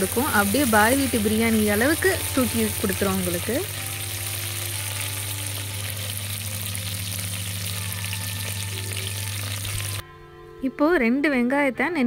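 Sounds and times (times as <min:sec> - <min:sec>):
ghee sizzling in a pot: 0:00.0 - 0:10.0.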